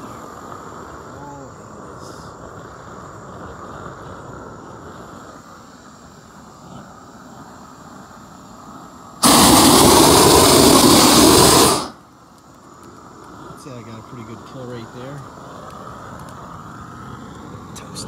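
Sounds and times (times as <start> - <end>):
propane torch hissing: 0.0 - 18.0.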